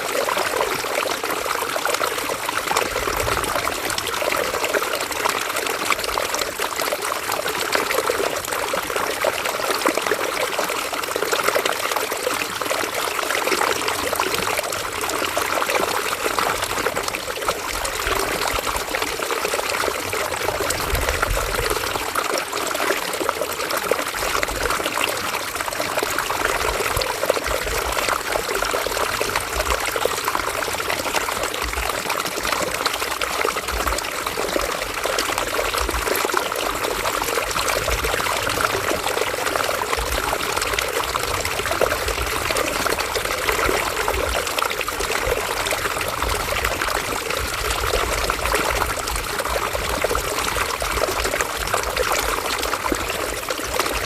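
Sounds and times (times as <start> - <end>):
river water trickling over stones: 0.0 - 54.0.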